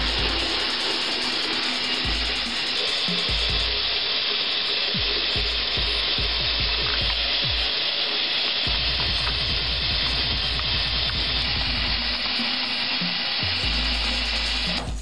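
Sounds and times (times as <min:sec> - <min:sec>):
faucet water pouring into basin: 0:00.0 - 0:15.0.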